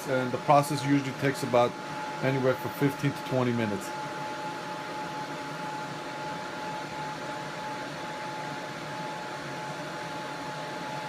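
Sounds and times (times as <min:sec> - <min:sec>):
thin constant whine: 0:00.0 - 0:11.0.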